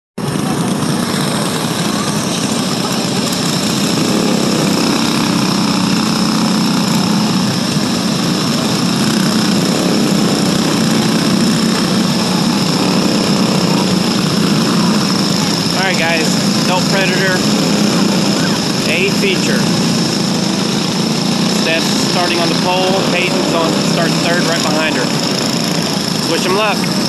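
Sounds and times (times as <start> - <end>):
go-kart engines droning: 0.2 - 27.0.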